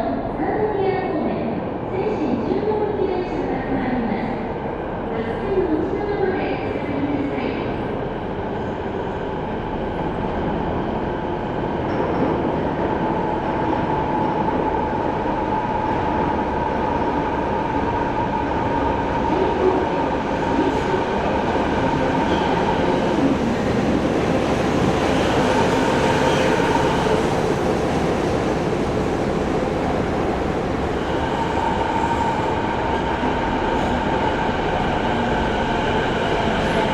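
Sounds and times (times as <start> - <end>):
train rail and wheel rumble: 0.0 - 36.9.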